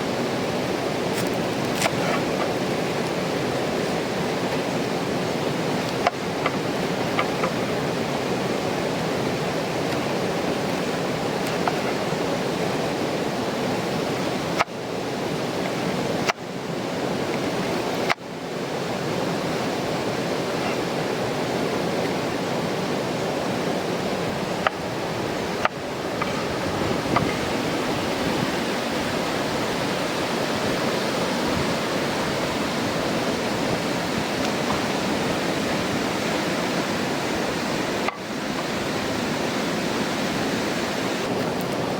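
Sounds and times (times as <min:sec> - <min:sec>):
mountain river rushing: 0:00.0 - 0:41.9.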